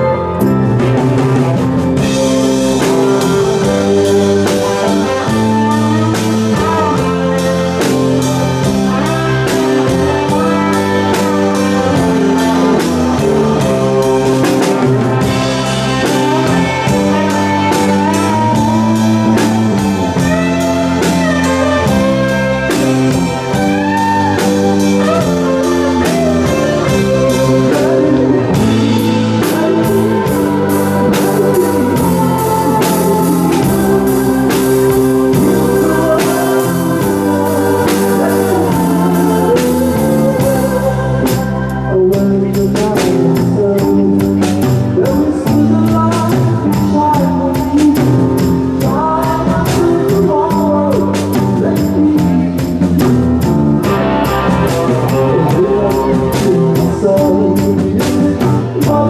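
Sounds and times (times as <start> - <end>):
electric guitar solo: 0.0 - 43.5, 53.8 - 58.9
live rock band playing: 0.0 - 59.0.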